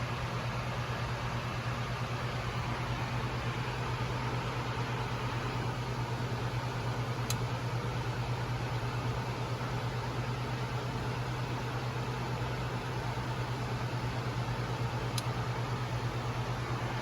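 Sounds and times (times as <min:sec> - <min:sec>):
airflow and air-conditioning rush: 0:00.0 - 0:17.0
constant low hum: 0:00.0 - 0:17.0.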